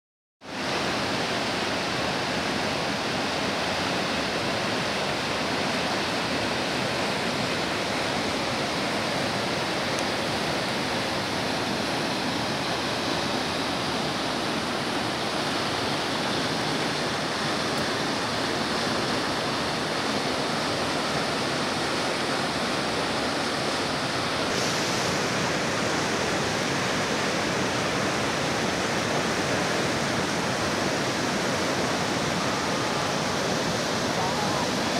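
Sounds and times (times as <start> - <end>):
water rushing over rocks: 0.4 - 34.9.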